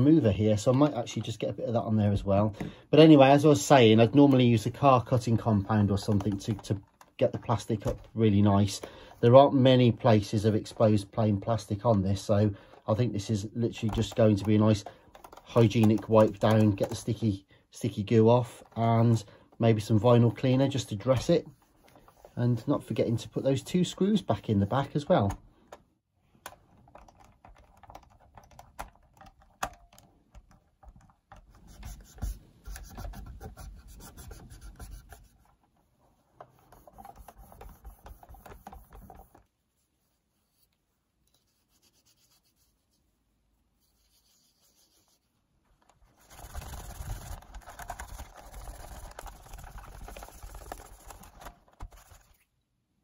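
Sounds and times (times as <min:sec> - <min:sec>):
cloth rubbing plastic case: 0:00.0 - 0:52.5.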